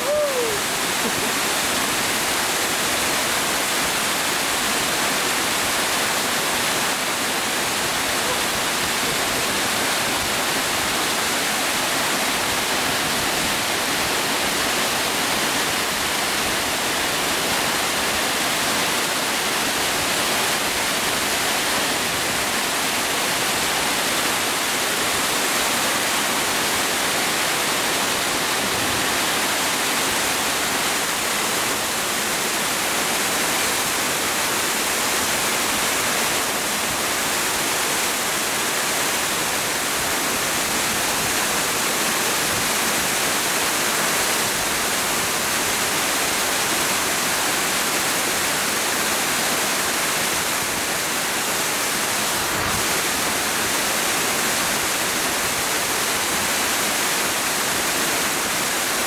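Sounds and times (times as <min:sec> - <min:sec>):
waterfall crashing into a pool: 0:00.0 - 0:59.0.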